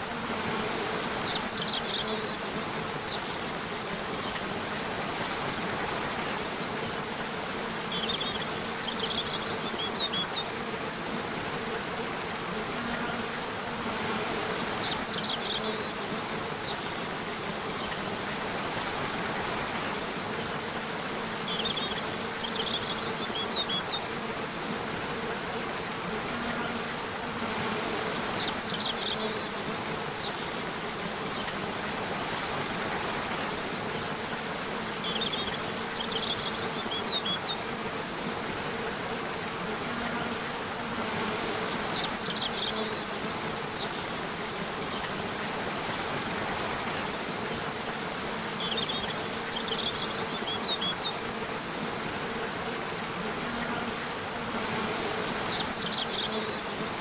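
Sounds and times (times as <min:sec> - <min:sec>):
buzzing insect drone: 0:00.0 - 0:57.0
running water hiss: 0:00.0 - 0:57.0.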